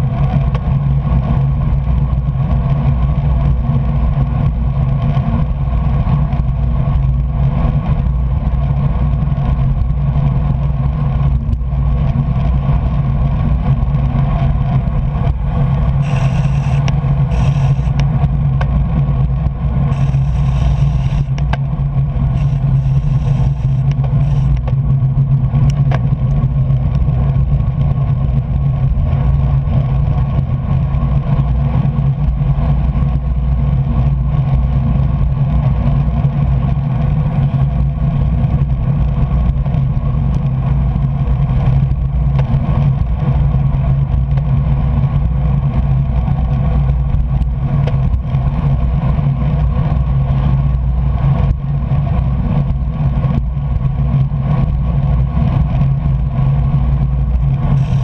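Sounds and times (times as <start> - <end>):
bicycle tyre noise on wet road: 0.0 - 58.0.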